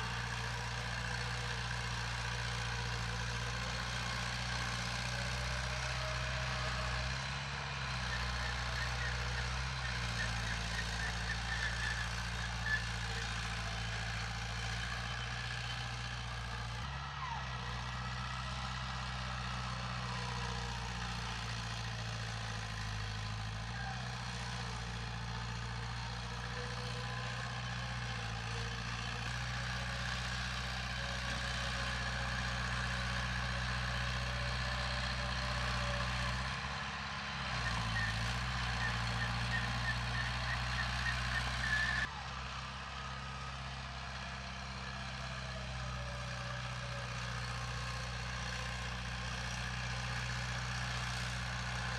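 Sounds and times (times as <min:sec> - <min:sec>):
heavy machinery diesel engine: 0:00.0 - 0:51.9.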